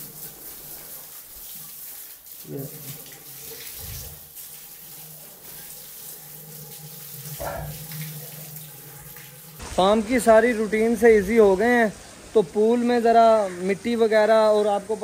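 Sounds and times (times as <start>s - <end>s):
hose spraying water: 0.0s - 13.8s.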